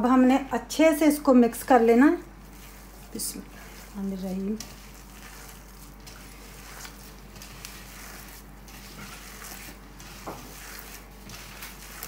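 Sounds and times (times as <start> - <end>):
hand squelching batter: 1.7 - 12.0.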